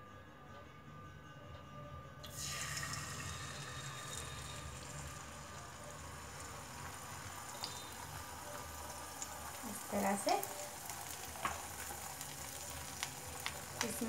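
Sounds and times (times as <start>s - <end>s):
egg sizzling in hot oil: 2.2s - 14.0s.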